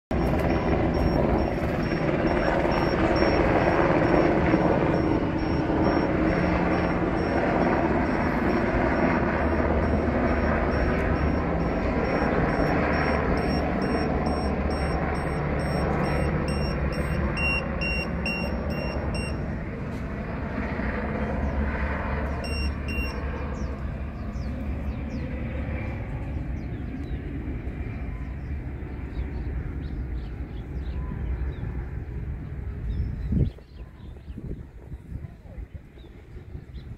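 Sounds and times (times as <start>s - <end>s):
helicopter flying overhead: 0.1s - 36.9s.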